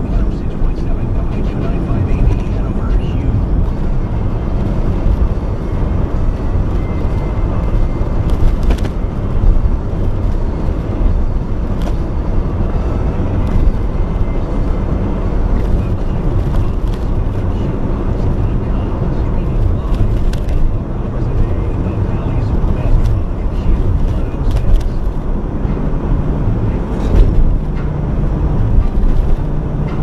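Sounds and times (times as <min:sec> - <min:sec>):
road noise: 0:00.0 - 0:30.0
vehicle engine: 0:00.0 - 0:30.0
wind noise: 0:00.0 - 0:30.0.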